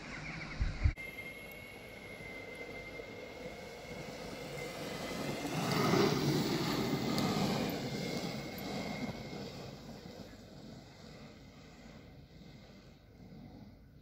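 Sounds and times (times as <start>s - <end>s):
skateboard wheels rumbling on asphalt: 1.0s - 14.0s.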